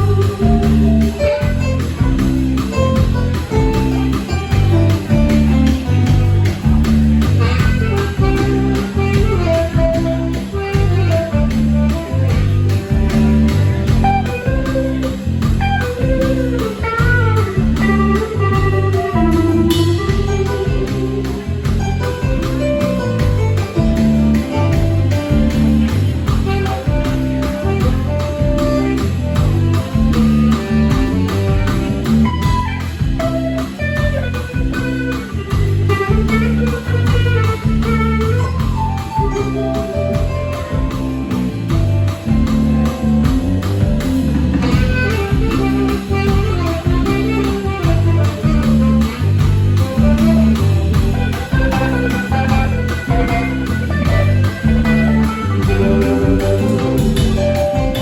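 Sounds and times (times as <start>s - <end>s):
bass: 0.0s - 58.0s
drums: 0.0s - 58.0s
electric guitar lead with bends: 0.0s - 58.0s.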